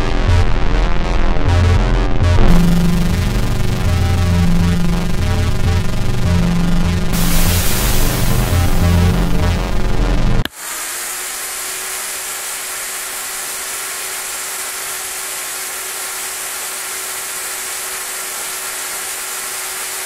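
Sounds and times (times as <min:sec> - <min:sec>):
vacuum cleaner running: 0:02.5 - 0:20.0.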